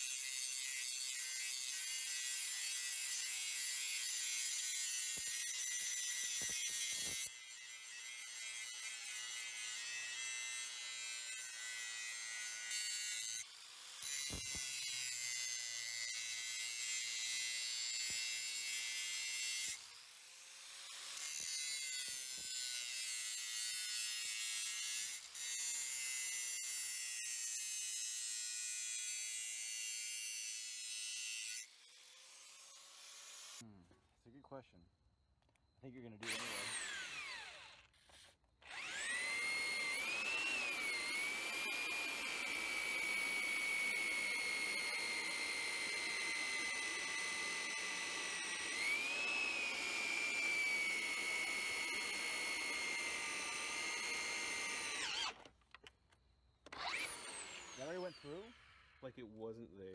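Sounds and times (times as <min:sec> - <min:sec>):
power tool whirring: 0:00.0 - 0:33.6, 0:35.4 - 0:59.1.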